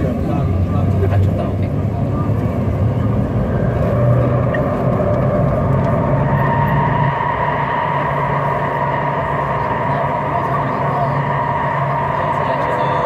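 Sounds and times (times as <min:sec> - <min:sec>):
train rumbling through tunnel: 0:00.0 - 0:13.0
thin whine: 0:01.6 - 0:13.0.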